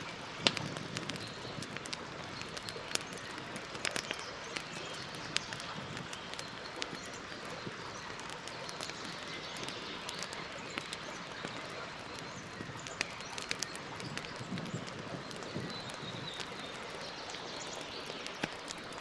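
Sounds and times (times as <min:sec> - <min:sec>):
fire crackles and pops: 0:00.0 - 0:19.0
fire snapping: 0:00.0 - 0:19.0.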